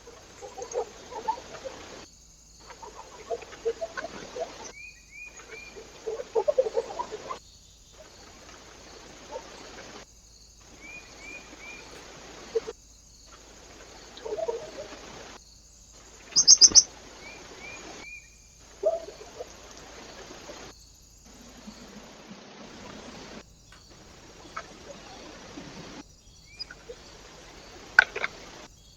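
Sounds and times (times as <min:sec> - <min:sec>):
small birds chirping: 0:00.0 - 0:28.9
trail camera hiss: 0:00.0 - 0:28.9.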